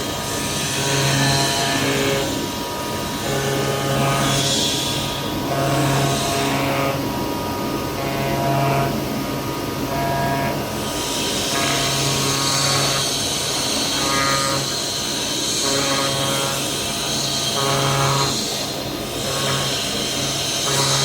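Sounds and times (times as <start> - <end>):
motors humming and whining: 0.0 - 21.0.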